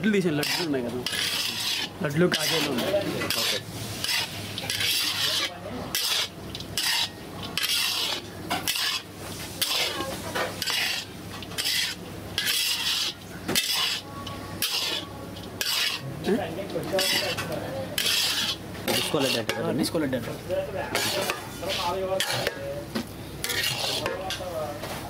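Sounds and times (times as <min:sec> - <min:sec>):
metal spatula scraping metal pan: 0:00.1 - 0:20.0, 0:20.9 - 0:22.7, 0:23.4 - 0:24.6.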